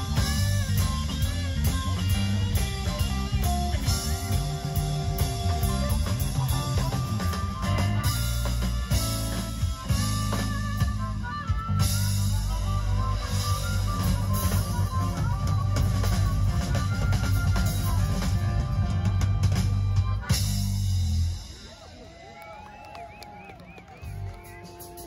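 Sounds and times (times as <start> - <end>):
live rock band playing: 0.0 - 22.0, 24.0 - 25.0.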